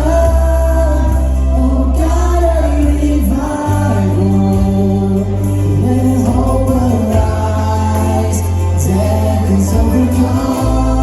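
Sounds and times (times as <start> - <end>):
band bass and keyboard: 0.0 - 11.0
choir singing: 0.0 - 11.0.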